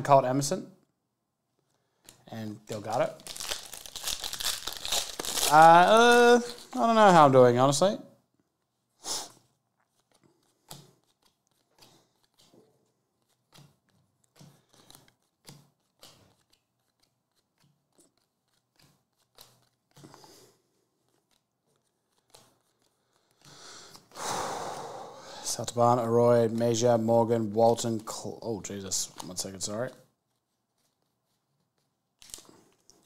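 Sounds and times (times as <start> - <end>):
trading cards flipping: 2.0 - 7.3, 9.1 - 24.1, 26.3 - 33.0.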